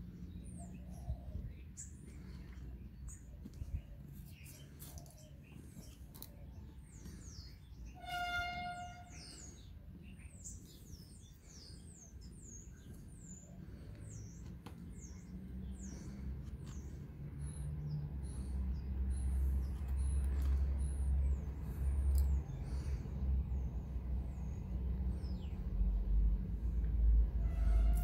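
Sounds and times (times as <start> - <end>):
small birds chirping: 0.0 - 8.1, 9.0 - 27.0.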